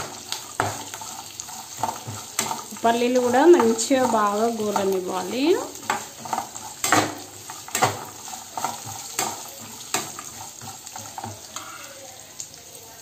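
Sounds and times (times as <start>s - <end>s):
metal spoon stirring and scraping: 0.0s - 12.2s
food sizzling in hot oil: 0.0s - 13.0s.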